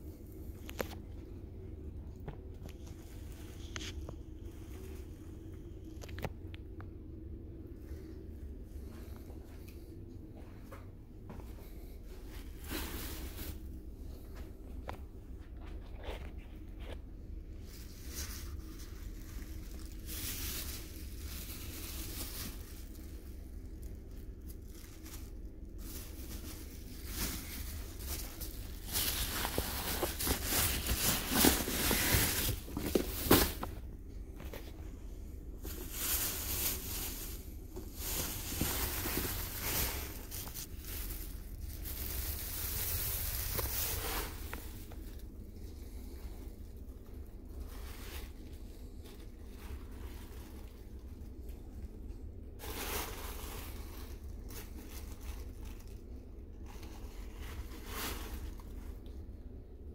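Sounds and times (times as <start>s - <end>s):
low steady rumble: 0.0s - 59.9s
plastic bag rustling: 11.4s - 59.9s.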